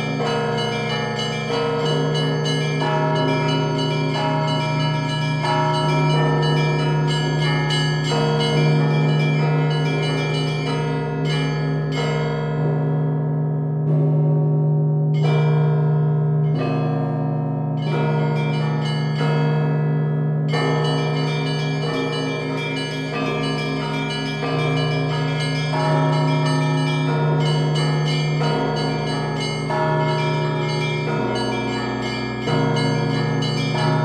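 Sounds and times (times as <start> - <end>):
small bells ringing rhythmically: 0.0 - 12.7, 17.8 - 34.0
large bell deep tone: 0.0 - 34.0.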